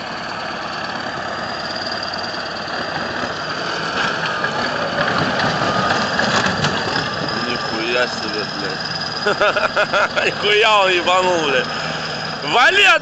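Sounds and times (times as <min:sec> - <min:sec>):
heavy machine engine running: 0:00.0 - 0:13.0
high whine: 0:00.0 - 0:13.0.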